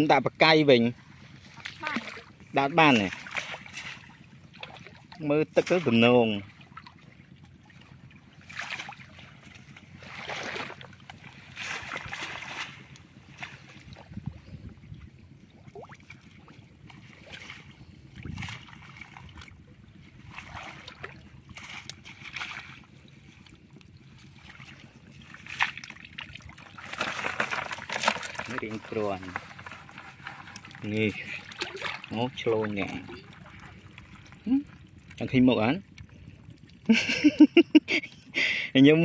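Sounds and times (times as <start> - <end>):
shallow water splashing: 0.1 - 39.0.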